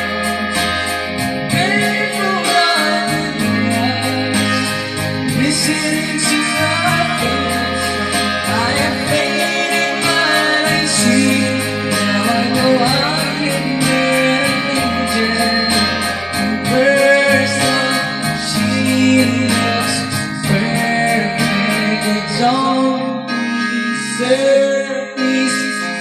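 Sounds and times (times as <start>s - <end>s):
backing track with guitar: 0.0s - 26.0s
man singing into microphone: 0.0s - 26.0s.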